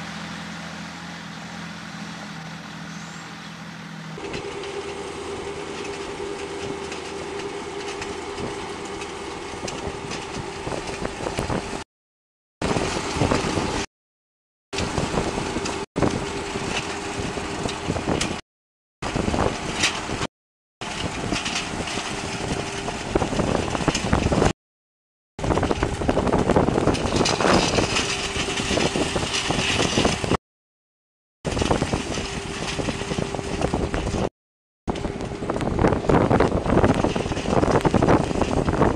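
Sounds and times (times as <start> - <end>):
loader engine humming: 0.0 - 11.9, 14.8 - 18.4, 19.0 - 24.5, 25.4 - 30.4, 31.5 - 34.3, 34.9 - 38.9
rotary disc through dirt: 0.0 - 11.9, 12.6 - 13.9, 14.8 - 18.4, 19.0 - 24.5, 25.4 - 30.4, 31.5 - 34.3, 34.9 - 38.9.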